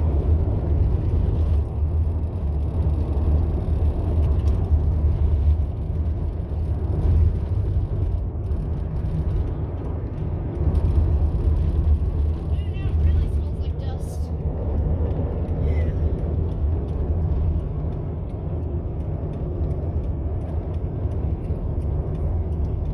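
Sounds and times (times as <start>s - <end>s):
car interior road and engine rumble: 0.0s - 22.9s.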